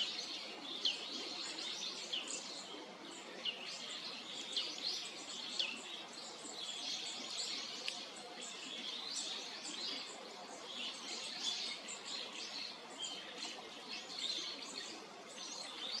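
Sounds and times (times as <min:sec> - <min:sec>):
birds chirping: 0:00.0 - 0:16.0
faint outdoor background noise: 0:00.0 - 0:16.0.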